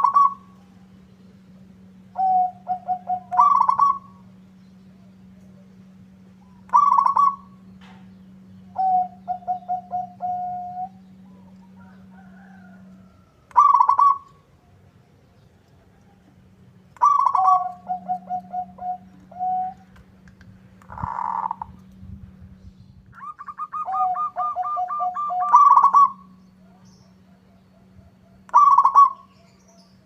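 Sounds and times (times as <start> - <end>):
dove cooing: 0.0 - 14.9, 15.8 - 20.0, 20.8 - 21.9, 23.2 - 30.0.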